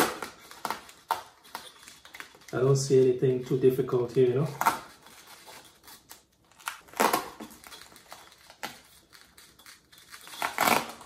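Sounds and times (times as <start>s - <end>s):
velcro straps rustling: 0.0s - 11.0s.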